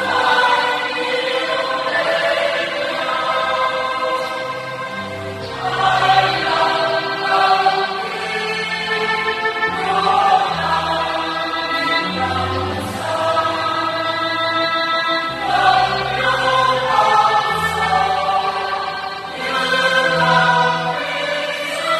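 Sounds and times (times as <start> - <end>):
choir singing a hymn: 0.0 - 21.9.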